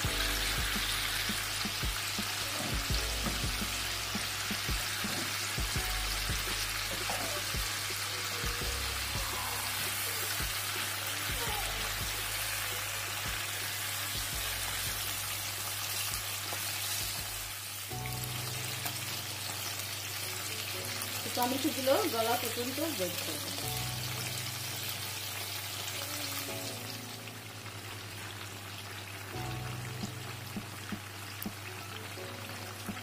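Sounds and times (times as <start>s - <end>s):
food sizzling in hot oil: 0.0s - 33.0s
soft background music: 0.0s - 33.0s.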